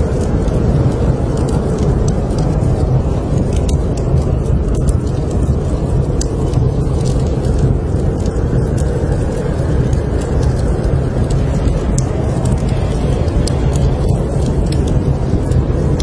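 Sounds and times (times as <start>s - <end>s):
blizzard wind rumble: 0.0s - 16.0s
wood fire crackling: 0.0s - 16.0s.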